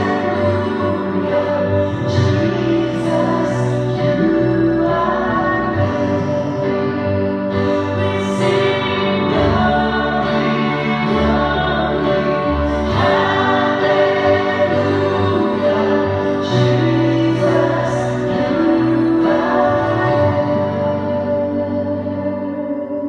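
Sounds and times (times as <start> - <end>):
duet singing worship song: 0.0 - 22.8
sustained instrumental chords: 0.0 - 23.0.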